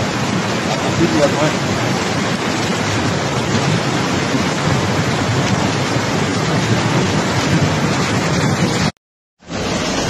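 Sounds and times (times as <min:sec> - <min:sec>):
flooding river rushing: 0:00.0 - 0:10.0.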